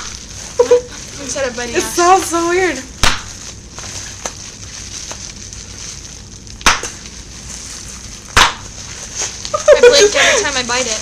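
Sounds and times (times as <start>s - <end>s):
bubble wrap popping: 0.0s - 11.0s.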